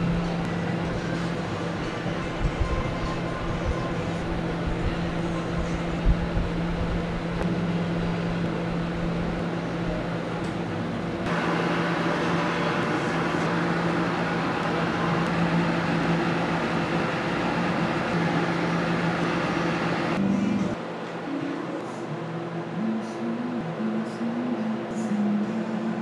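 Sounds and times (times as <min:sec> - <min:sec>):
kitchen machinery humming: 0:00.0 - 0:26.0.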